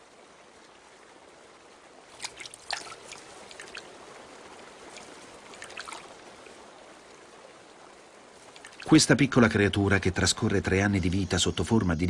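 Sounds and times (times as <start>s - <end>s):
river water flowing over stones: 0.0s - 11.2s
water trickling drips: 0.0s - 11.7s.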